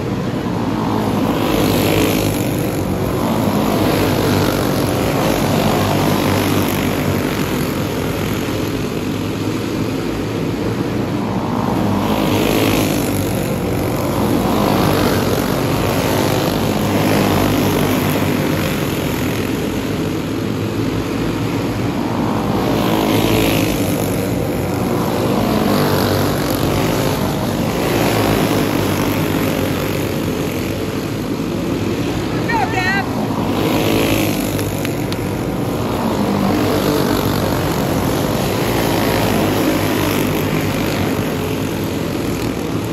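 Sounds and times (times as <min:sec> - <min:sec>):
racing kart engines passing: 0:00.0 - 0:42.9.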